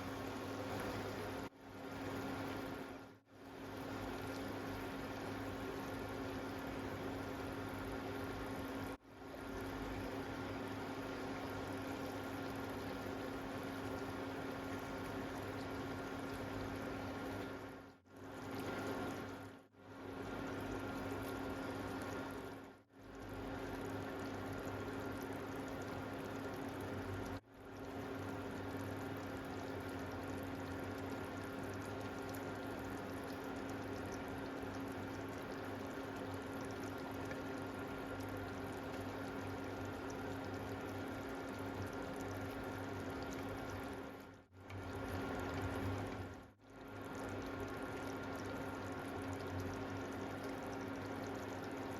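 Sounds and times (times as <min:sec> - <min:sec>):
low steady hum: 0:00.0 - 0:51.9
meat bubbling in a pan: 0:00.0 - 0:51.9.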